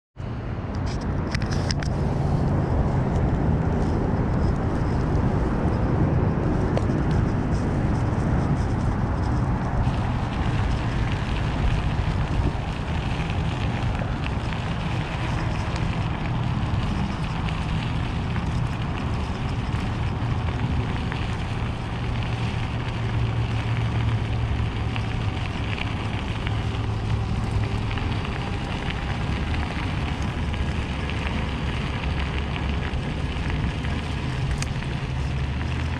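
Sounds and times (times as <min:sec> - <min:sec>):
wind rumble on microphone: 0:00.2 - 0:35.9
tyres rolling over rough pavement: 0:00.9 - 0:35.9.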